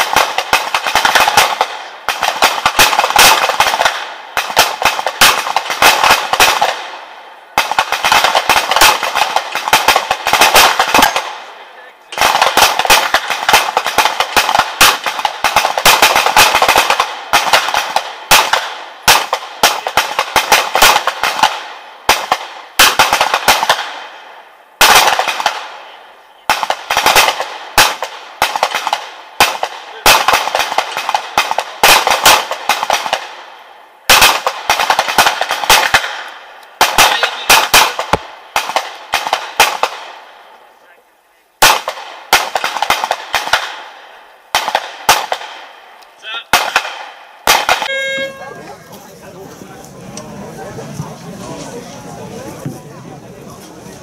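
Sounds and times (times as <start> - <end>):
pistol shots with echo: 0.0 - 40.7, 41.6 - 48.2.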